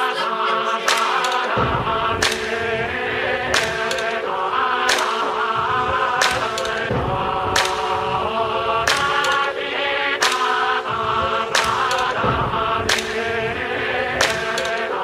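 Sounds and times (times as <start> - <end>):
choir-like chanting: 0.0 - 15.0
sustained drone: 1.3 - 15.0.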